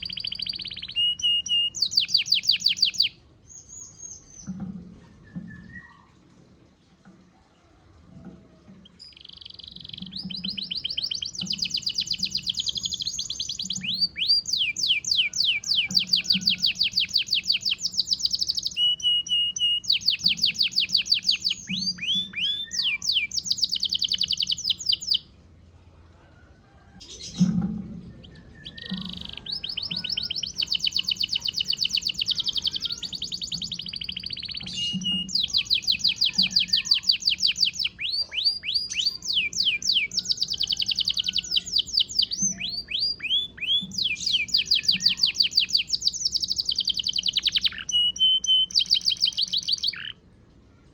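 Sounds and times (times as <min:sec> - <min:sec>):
canary singing trills: 0:00.0 - 0:04.6, 0:08.8 - 0:25.3, 0:28.1 - 0:50.2.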